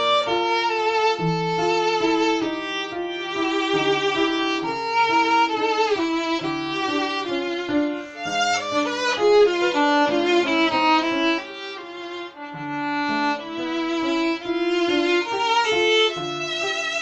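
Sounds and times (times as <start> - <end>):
piano accompaniment: 0.0 - 17.0
violin melody: 0.0 - 17.0.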